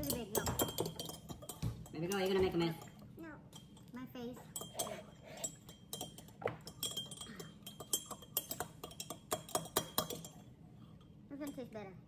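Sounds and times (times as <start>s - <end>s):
cutlery and glassware clinking: 0.0s - 10.5s.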